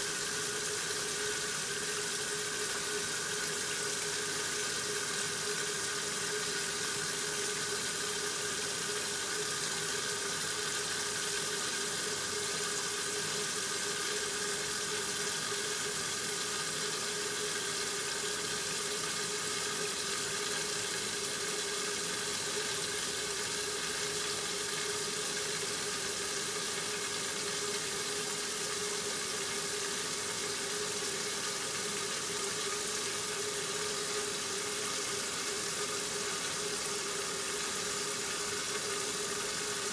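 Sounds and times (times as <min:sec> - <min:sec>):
washing machine water rushing: 0:00.0 - 0:39.9.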